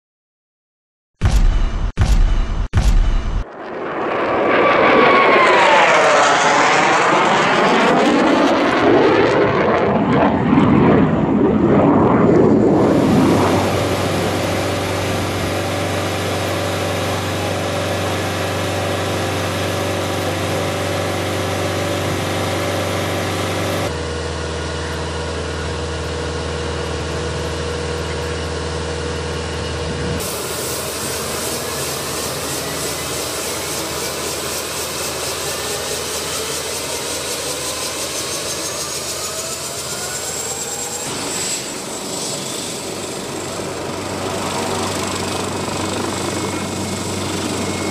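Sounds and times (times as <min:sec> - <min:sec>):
jet fly-past whoosh: 0:02.8 - 0:23.9, 0:30.0 - 0:47.9
helicopter engines whining: 0:02.9 - 0:47.9.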